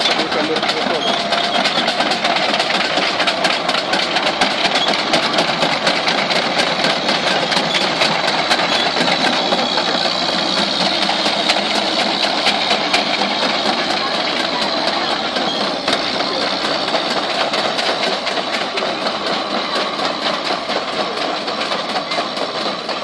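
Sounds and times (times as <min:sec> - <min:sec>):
steel tracks clattering: 0:00.0 - 0:23.0
tank engine running: 0:00.0 - 0:23.0.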